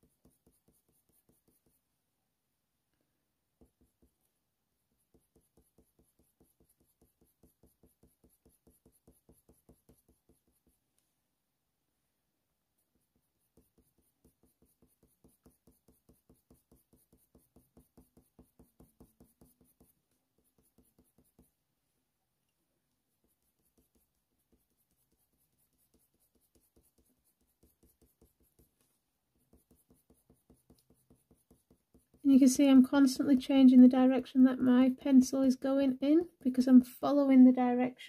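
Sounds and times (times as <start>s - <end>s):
coloured pencil scratching on paper: 0.0s - 1.9s, 4.9s - 11.0s, 12.7s - 21.6s, 23.0s - 36.8s.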